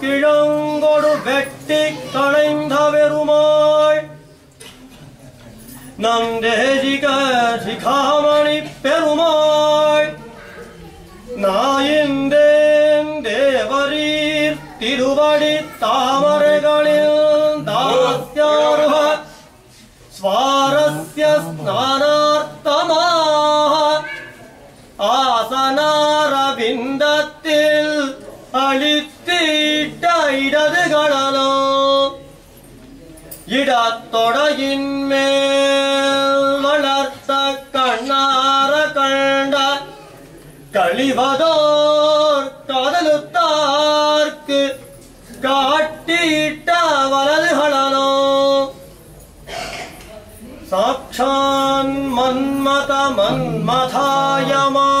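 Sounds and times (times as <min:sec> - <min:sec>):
man chanting: 0:00.0 - 0:04.4, 0:06.0 - 0:10.6, 0:11.3 - 0:24.4, 0:25.0 - 0:32.5, 0:33.5 - 0:48.9, 0:50.7 - 0:55.0.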